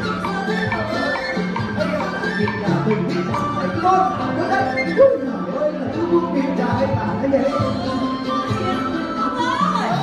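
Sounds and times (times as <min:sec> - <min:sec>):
small ensemble playing melody: 0:00.0 - 0:10.0.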